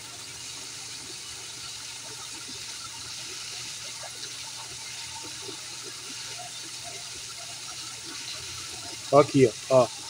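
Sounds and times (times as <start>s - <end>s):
water rushing into a pond: 0.0s - 10.0s.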